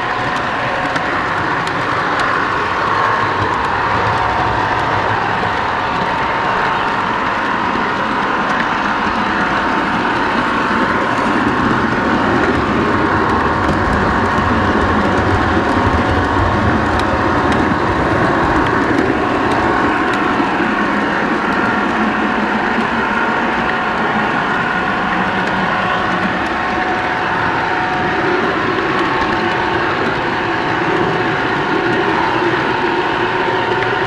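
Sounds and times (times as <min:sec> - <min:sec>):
model train wheels rumbling on rail: 0:00.0 - 0:34.0.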